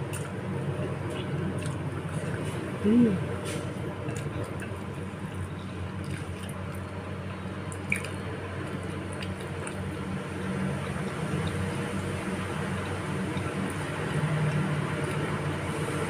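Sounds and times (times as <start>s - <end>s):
wet chewing and slurping: 0.0s - 16.0s.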